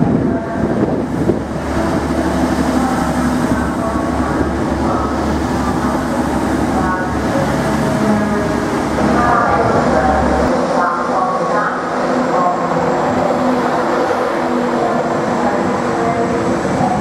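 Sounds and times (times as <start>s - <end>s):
diesel train passing: 0.0s - 17.0s.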